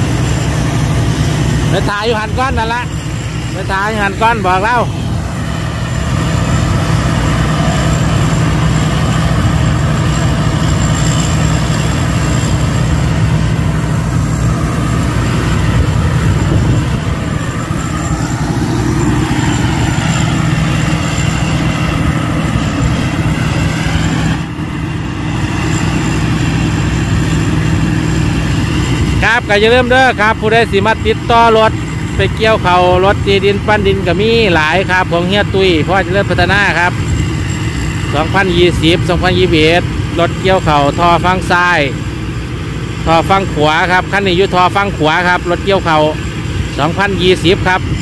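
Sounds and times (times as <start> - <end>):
combine harvester engine running: 0.0 - 48.0.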